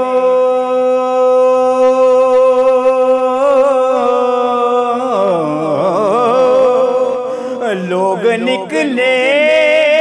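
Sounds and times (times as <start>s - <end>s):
man singing solo: 0.0s - 10.0s.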